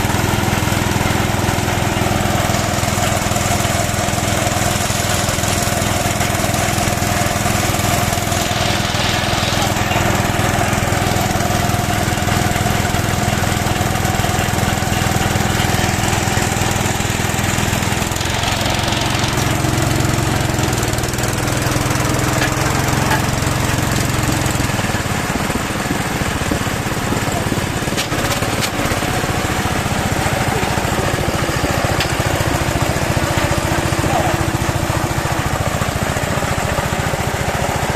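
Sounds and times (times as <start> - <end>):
small water pump engine running: 0.0 - 37.9.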